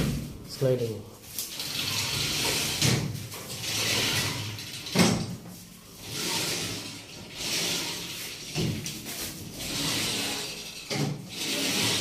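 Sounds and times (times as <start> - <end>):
glass doors sliding on track: 1.5 - 5.4, 6.0 - 12.0.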